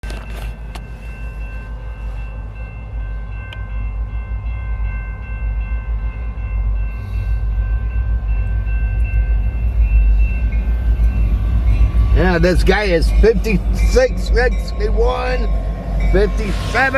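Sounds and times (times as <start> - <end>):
diesel locomotive engine rumble: 0.0 - 16.9
steady high tones ringing: 0.1 - 16.9.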